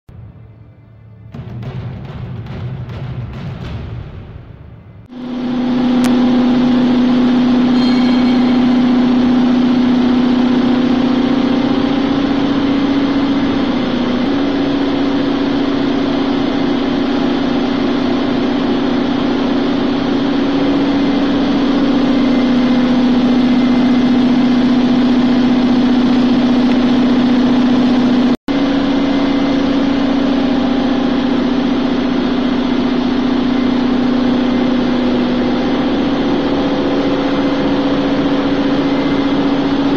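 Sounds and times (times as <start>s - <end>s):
vibrating machine humming: 0.1s - 39.9s.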